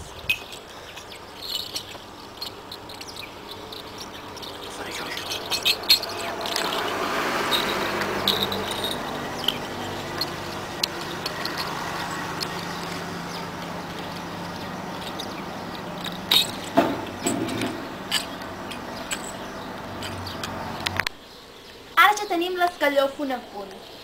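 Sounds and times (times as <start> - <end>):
low background hum: 0.0 - 21.0
small bells tinkling: 0.1 - 20.9
sharp metallic clicks: 0.3 - 21.2.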